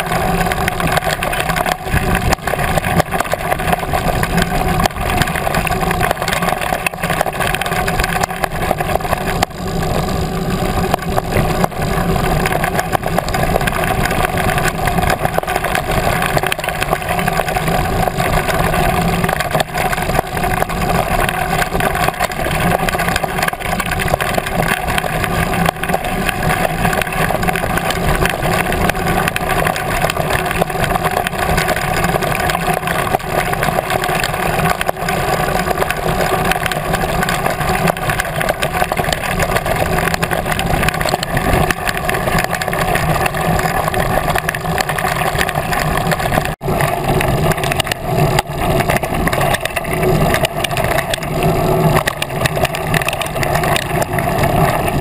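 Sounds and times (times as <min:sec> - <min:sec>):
bike rattling over gravel: 0:00.0 - 0:55.0.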